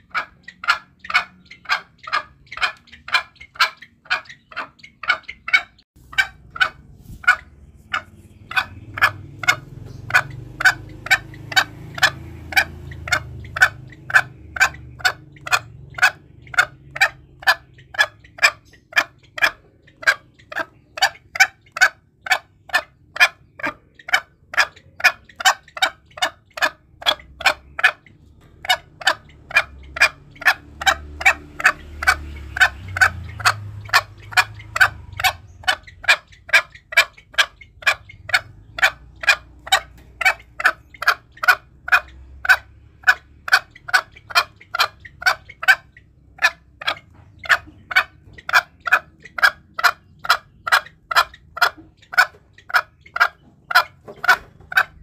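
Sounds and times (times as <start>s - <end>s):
junglefowl clucking: 0.0s - 55.0s.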